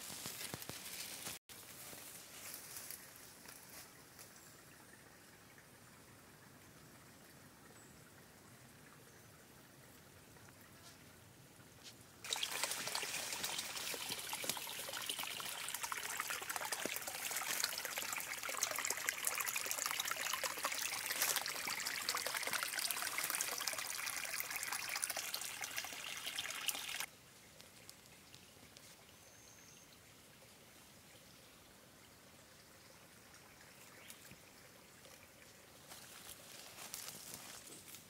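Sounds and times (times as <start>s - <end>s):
stream water trickling and splashing: 0.0s - 38.0s.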